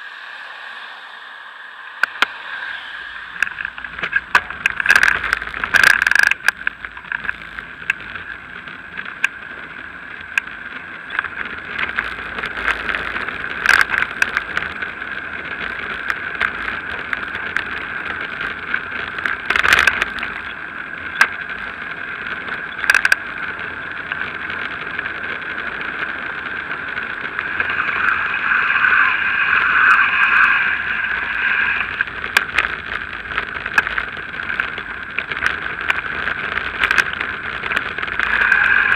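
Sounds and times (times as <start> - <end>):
wind and tyre rolling noise: 0.0 - 38.9.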